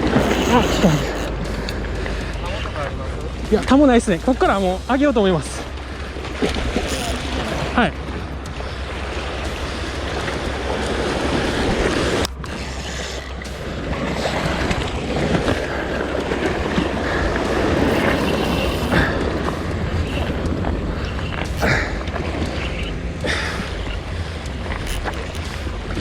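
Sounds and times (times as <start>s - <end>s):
sea surf on rocky shore: 0.0s - 26.0s
wind buffeting microphone: 0.0s - 26.0s.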